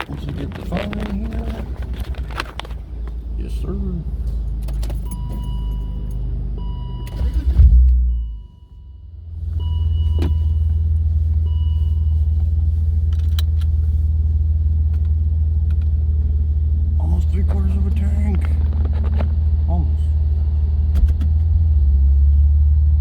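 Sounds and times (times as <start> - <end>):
car engine rumble from cabin: 0.0 - 23.0.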